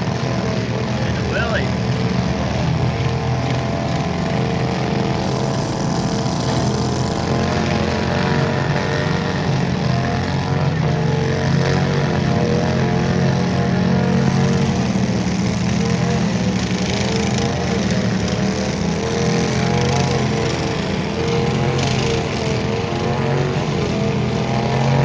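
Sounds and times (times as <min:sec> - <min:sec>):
small tractor engine running: 0:00.0 - 0:25.0.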